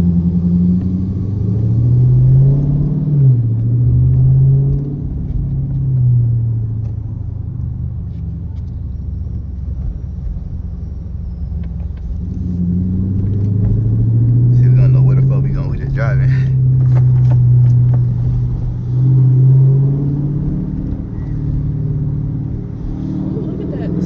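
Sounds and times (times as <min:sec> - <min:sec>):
car exhaust accelerating: 0:00.0 - 0:24.0.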